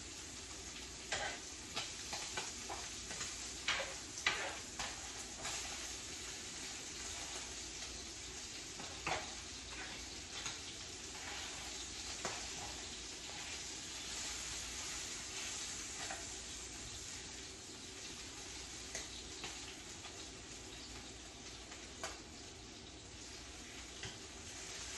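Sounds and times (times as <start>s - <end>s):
food sizzling in frying pan: 0.0s - 24.9s.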